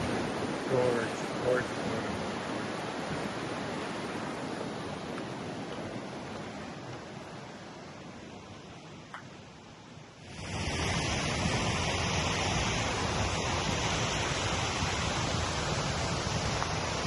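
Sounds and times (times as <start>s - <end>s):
rushing creek water: 0.0s - 17.0s.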